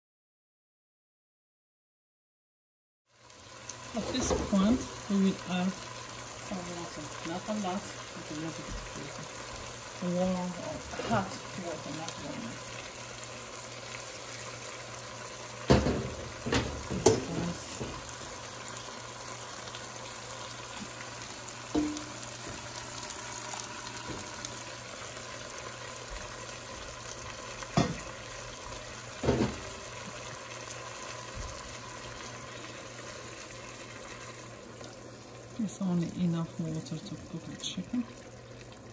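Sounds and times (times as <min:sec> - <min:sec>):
food sizzling in a pot: 0:03.1 - 0:38.9
water pouring: 0:03.2 - 0:38.9.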